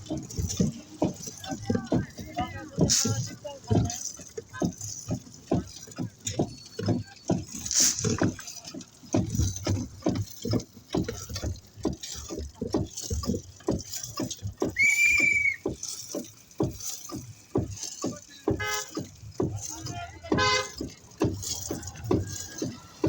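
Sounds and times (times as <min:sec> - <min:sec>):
rapid irregular knocks and thuds: 0:00.0 - 0:23.0.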